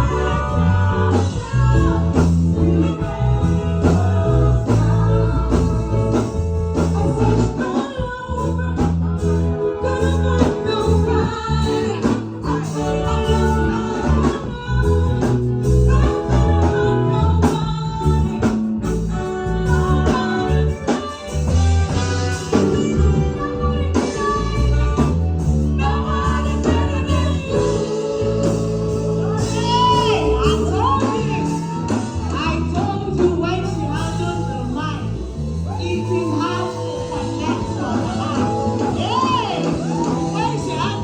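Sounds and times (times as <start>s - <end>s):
band with bass guitar and drums: 0.0s - 41.0s
people singing: 0.0s - 41.0s.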